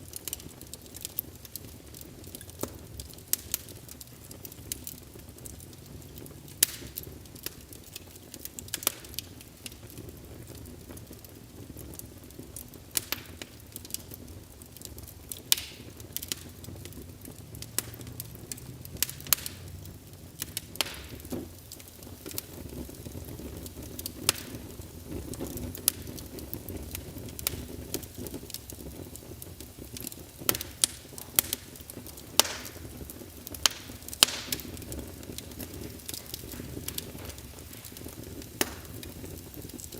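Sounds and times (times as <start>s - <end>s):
fire crackling and popping: 0.0s - 39.9s
flames rushing: 0.0s - 39.9s.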